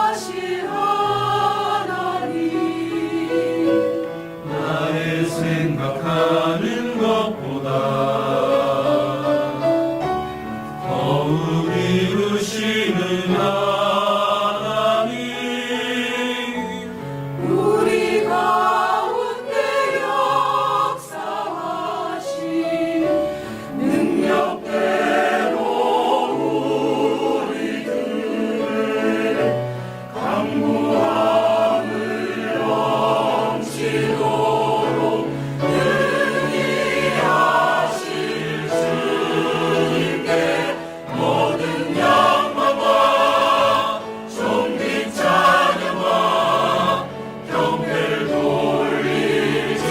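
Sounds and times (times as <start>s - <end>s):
choir singing a hymn: 0.0s - 49.9s.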